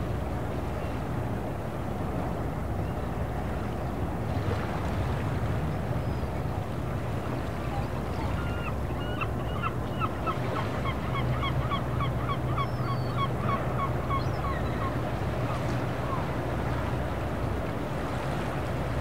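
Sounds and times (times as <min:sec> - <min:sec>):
boat engine hum: 0:00.0 - 0:19.0.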